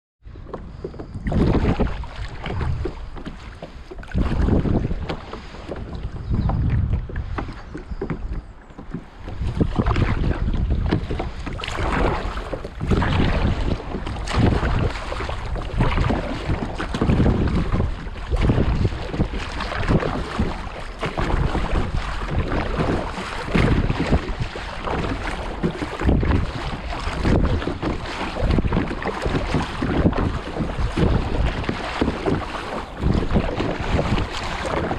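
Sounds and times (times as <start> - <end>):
water lapping around kayak: 0.2 - 34.9
wind buffeting microphone: 0.2 - 34.9.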